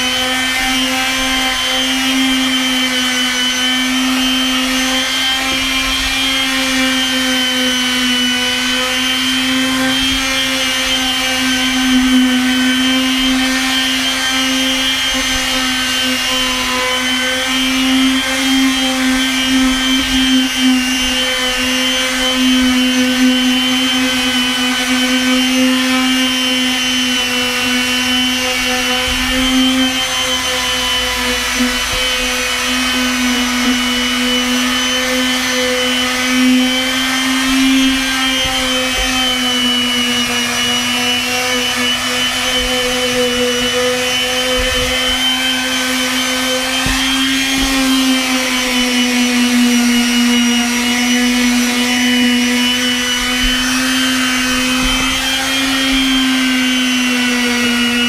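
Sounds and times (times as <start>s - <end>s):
palm sander motor whine: 0.0s - 58.0s.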